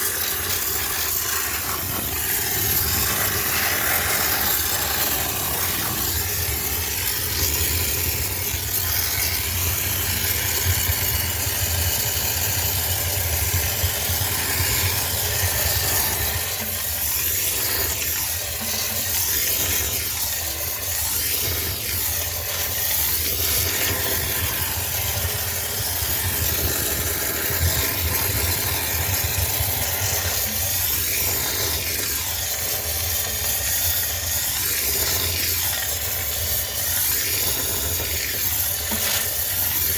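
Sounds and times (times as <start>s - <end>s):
steam hissing from nozzle: 0.0s - 39.9s.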